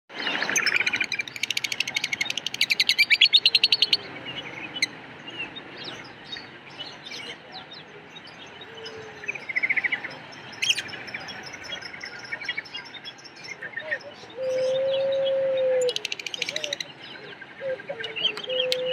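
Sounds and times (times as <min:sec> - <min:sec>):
lovebirds chirping: 0:00.1 - 0:18.9.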